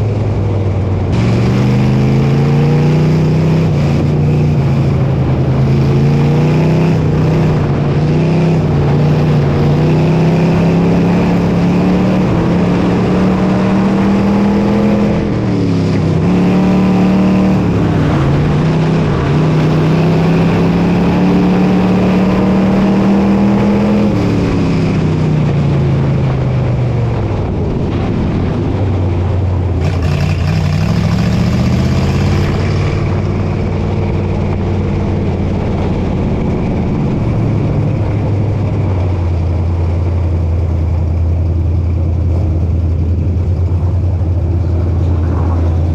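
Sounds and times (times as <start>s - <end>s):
race car engine revving: 0.0s - 26.4s, 27.2s - 45.9s.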